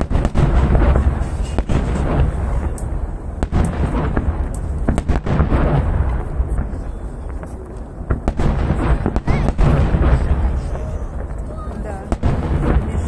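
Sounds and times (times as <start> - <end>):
firework shells bursting in booms: 0.0 - 13.0.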